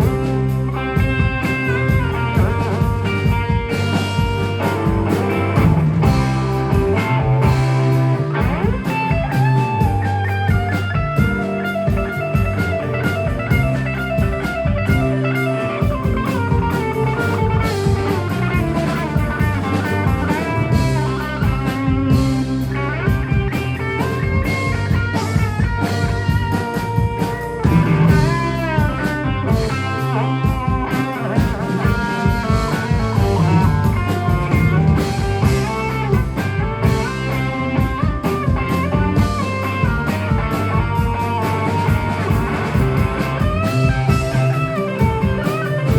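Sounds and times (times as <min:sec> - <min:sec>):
bass guitar: 0:00.0 - 0:45.9
drum kit: 0:00.0 - 0:45.9
electric guitar lead with bends: 0:00.0 - 0:45.9.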